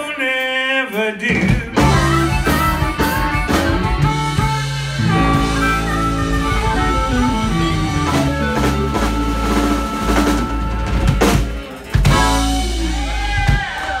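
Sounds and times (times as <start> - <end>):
bass: 1.2 - 14.0
drums with sharp hits: 1.2 - 14.0
electric guitars: 1.3 - 14.0
harmonica: 1.8 - 13.2.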